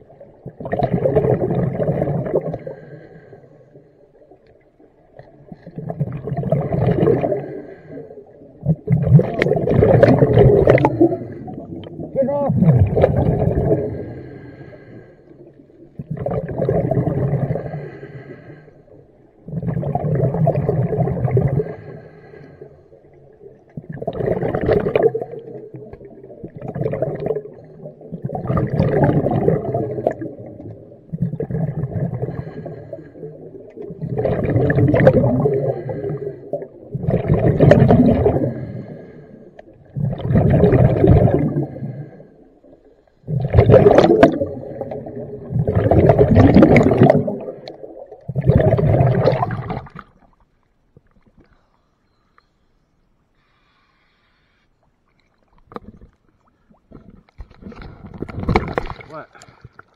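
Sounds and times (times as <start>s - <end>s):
exhaled bubbles underwater: 0.0s - 50.4s, 55.1s - 59.9s.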